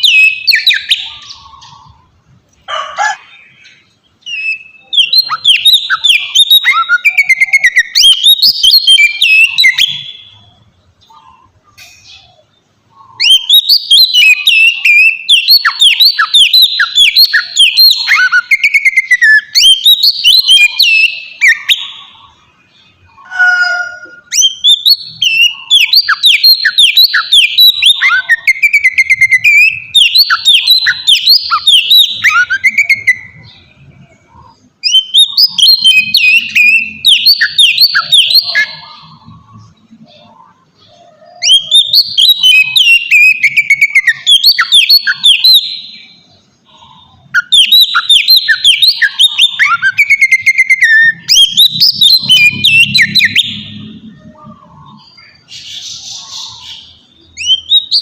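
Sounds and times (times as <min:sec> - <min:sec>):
bird singing whistled phrases: 0:00.0 - 0:02.0, 0:03.5 - 0:10.6, 0:11.2 - 0:58.0.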